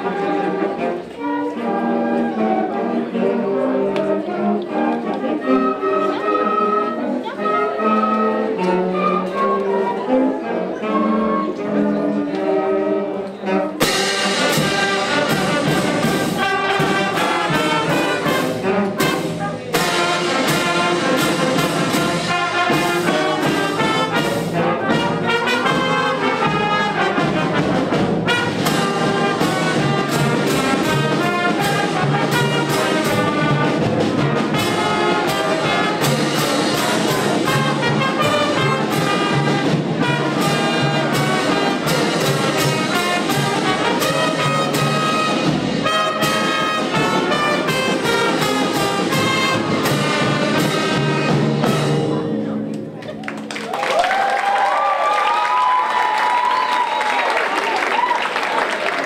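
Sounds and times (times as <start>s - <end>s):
concert band playing: 0.0s - 59.0s.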